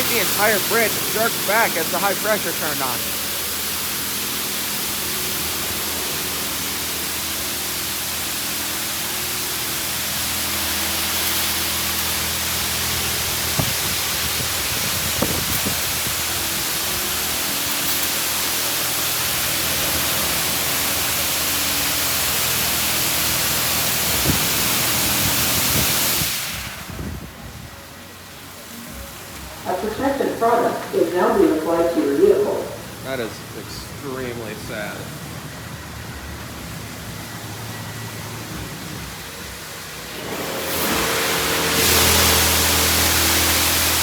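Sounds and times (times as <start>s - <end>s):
pump and machinery hum: 0.0s - 44.0s
water jets spraying car: 0.0s - 44.0s.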